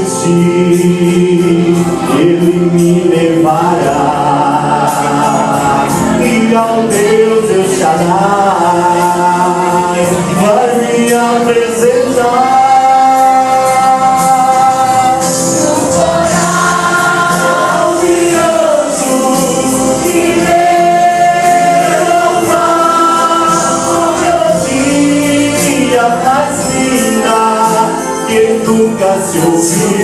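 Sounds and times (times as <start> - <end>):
vocal group singing a hymn: 0.0 - 30.0.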